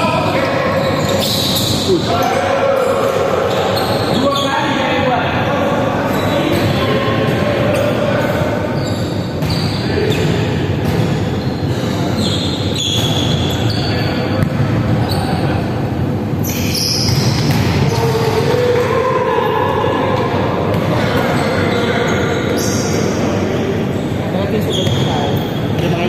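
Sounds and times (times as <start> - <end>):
sneakers squeaking: 0.3 - 4.8, 6.0 - 26.0.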